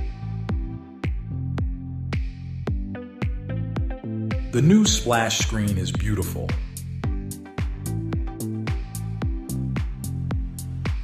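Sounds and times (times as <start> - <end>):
electronic music with sliding bass: 0.0 - 11.0.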